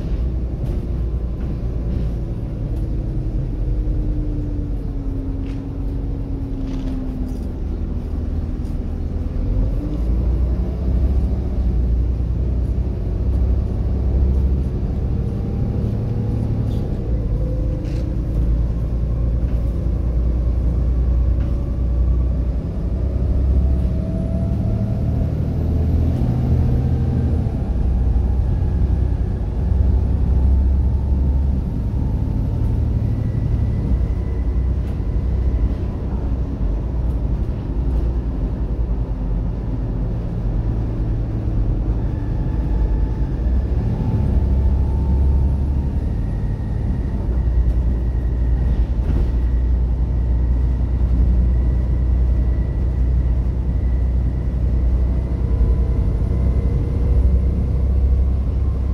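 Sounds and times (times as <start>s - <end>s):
bus diesel engine drone: 0.0s - 58.9s.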